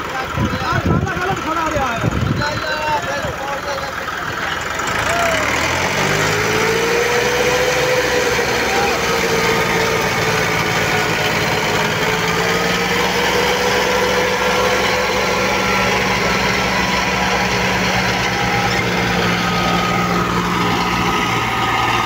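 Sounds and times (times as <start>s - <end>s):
diesel engines under heavy load: 0.0s - 22.0s.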